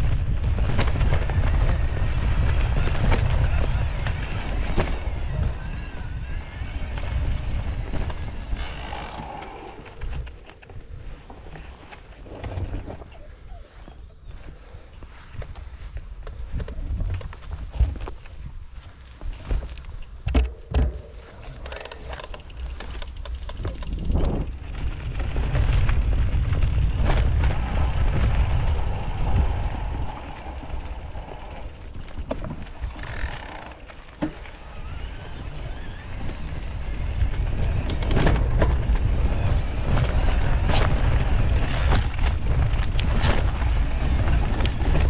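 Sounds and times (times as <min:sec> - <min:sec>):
bike rattling over bumps: 0:00.0 - 0:13.8, 0:14.4 - 0:45.0
tyre and wind rumble: 0:00.0 - 0:45.0.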